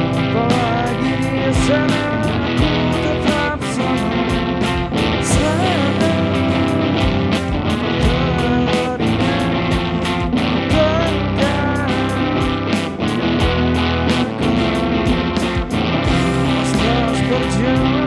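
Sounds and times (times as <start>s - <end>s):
lead electric guitar: 0.0s - 18.0s
rock band playing live: 0.0s - 18.0s.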